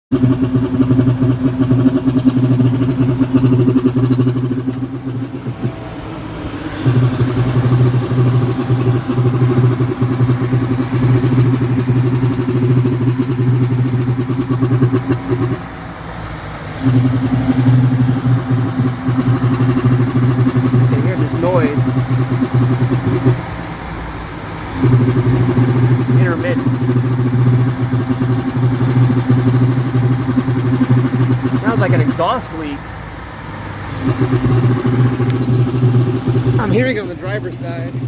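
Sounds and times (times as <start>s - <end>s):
engine idling: 0.0s - 38.0s
rapid pulsing from air intake: 0.1s - 38.0s.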